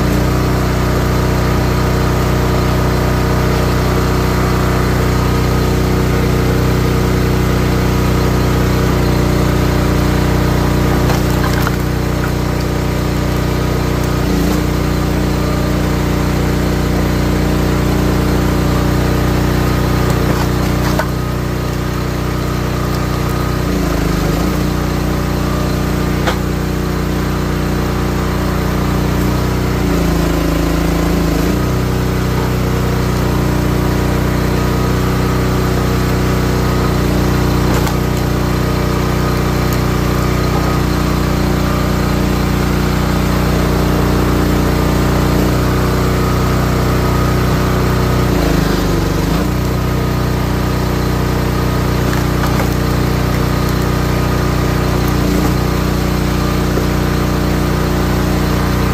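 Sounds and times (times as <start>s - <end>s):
log splitter engine running: 0.0s - 58.9s.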